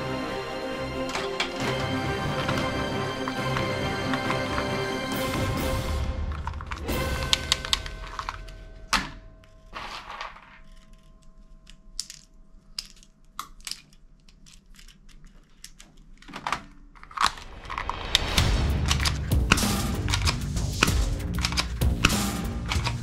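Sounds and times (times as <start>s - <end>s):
plastic toys clicking and clattering: 1.1s - 2.8s, 6.2s - 23.0s.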